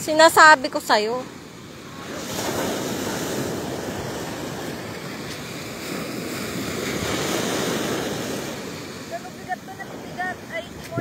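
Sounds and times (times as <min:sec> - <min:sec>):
ocean surf breaking: 0:00.0 - 0:11.0
wind on microphone: 0:01.9 - 0:11.0.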